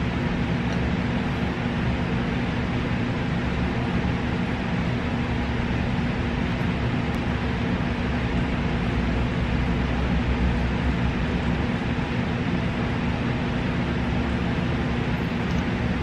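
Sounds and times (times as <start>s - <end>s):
air conditioner running: 0.0s - 16.0s.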